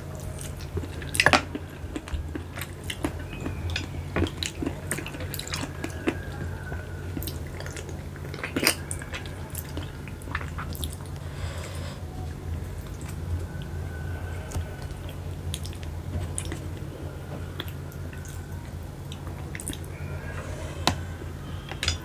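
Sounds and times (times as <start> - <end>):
steady low hum: 0.0 - 22.0
wet chewing and smacking: 0.1 - 11.3, 12.7 - 20.1.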